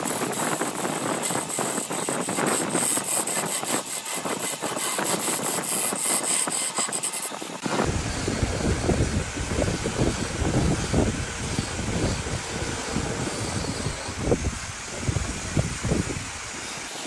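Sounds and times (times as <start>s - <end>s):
wood lathe tool cutting: 0.0s - 17.0s.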